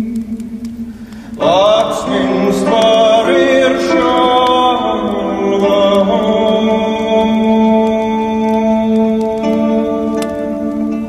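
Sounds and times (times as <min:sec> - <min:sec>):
slow choir-like background music: 0:00.0 - 0:11.0.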